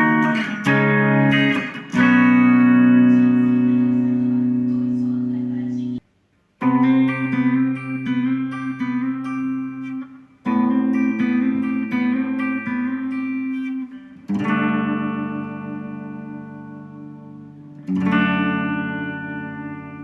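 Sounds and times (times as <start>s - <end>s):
electric guitar playing: 0.0s - 6.0s, 6.6s - 20.0s.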